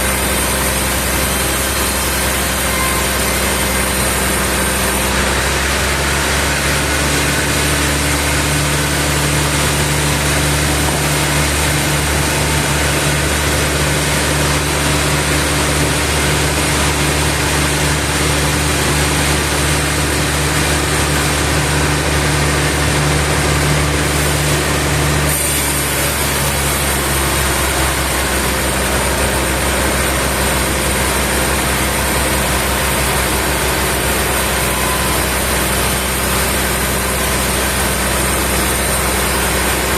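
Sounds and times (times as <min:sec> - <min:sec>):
machinery engine humming: 0:00.0 - 0:39.9.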